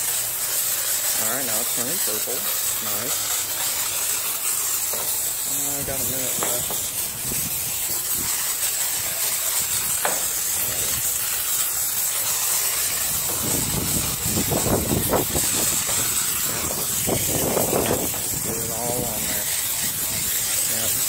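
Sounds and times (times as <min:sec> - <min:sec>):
brush scrubbing car body: 0:00.0 - 0:21.0
foam brush spraying hiss: 0:00.0 - 0:21.0.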